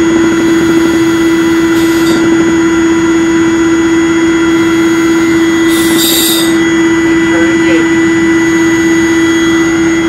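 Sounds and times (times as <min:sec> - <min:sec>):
cockpit drone: 0:00.0 - 0:10.0.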